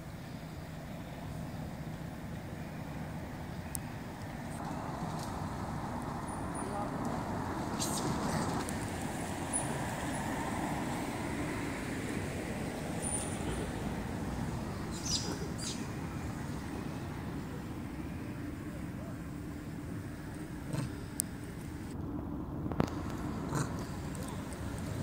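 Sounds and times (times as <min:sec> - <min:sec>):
outdoor background rumble: 0:00.0 - 0:25.0.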